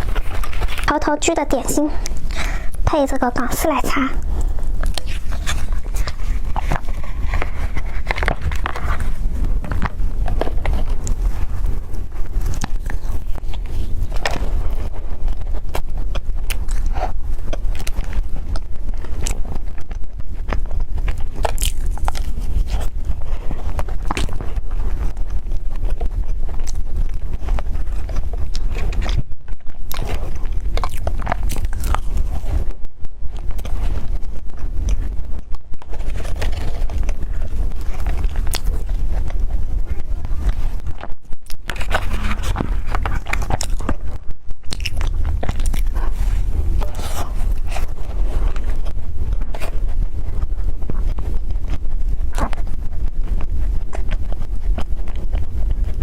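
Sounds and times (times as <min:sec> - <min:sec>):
chewing: 0:00.0 - 0:32.8, 0:33.4 - 0:56.0
steady low hum: 0:00.0 - 0:56.0.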